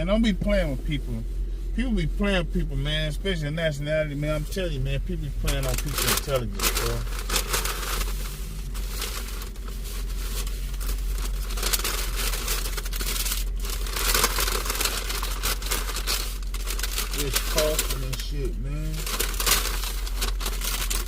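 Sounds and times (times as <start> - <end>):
steady low hum: 0.0 - 21.0
wrapping rustling and crinkling: 2.7 - 21.0.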